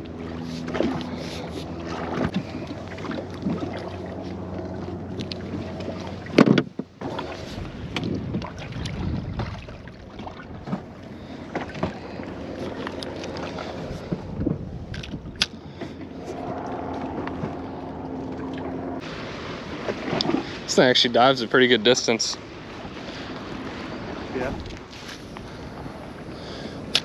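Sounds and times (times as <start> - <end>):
wind on microphone: 0.0 - 20.7, 22.9 - 27.0
boat motor humming: 0.0 - 27.0.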